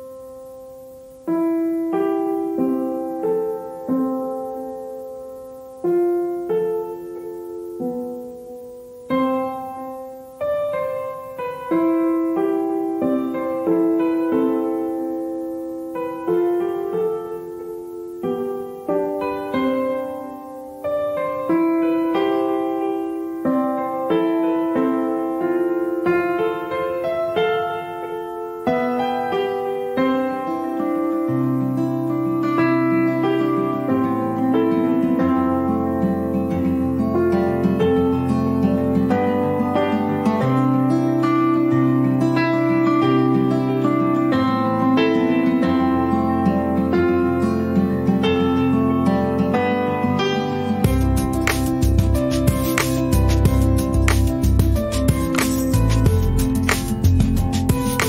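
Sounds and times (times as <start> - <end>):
slow piano music: 0.0 - 58.0.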